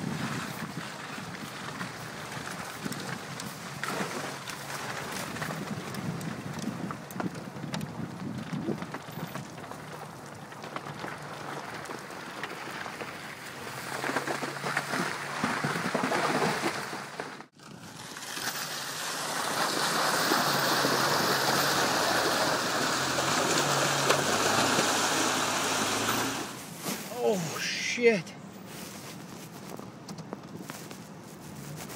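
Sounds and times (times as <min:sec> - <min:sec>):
tyres and wind rushing: 0:00.0 - 0:31.9.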